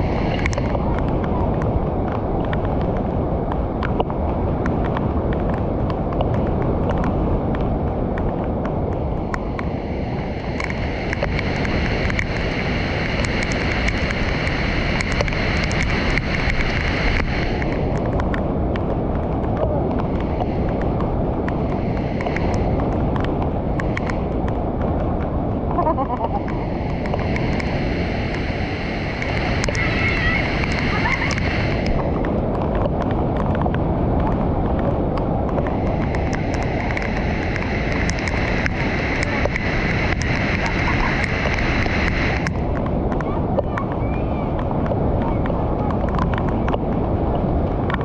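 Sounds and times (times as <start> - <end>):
water rushing over a weir: 0.0 - 48.0.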